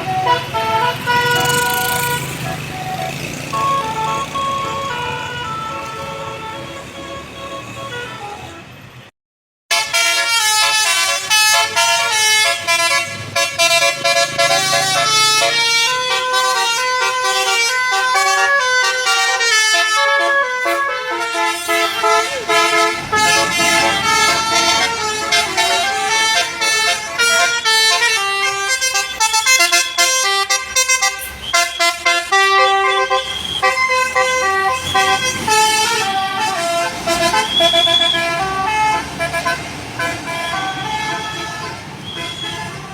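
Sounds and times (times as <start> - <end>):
bus horn playing a tune: 0.0 - 9.0, 9.7 - 42.9.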